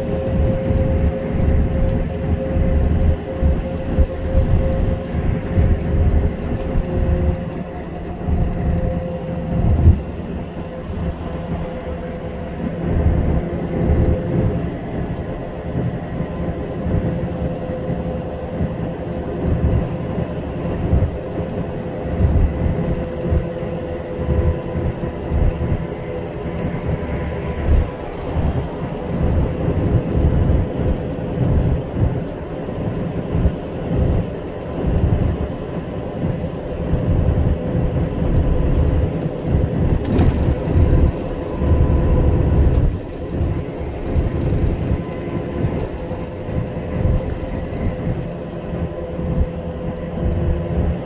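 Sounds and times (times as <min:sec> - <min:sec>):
tyre road rumble inside vehicle: 0:00.0 - 0:51.0.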